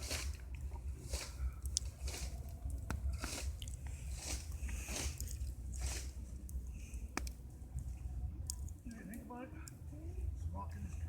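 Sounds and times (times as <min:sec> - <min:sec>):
campfire crackling and popping: 0:00.0 - 0:09.9.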